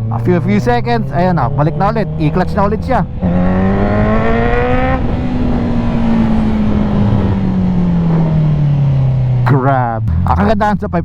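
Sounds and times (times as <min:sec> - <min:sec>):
motorcycle engine revving: 0:00.0 - 0:10.7.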